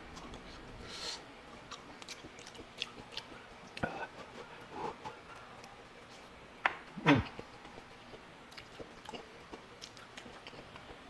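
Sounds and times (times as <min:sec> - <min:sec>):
mouth sounds of eating: 0:00.0 - 0:11.0.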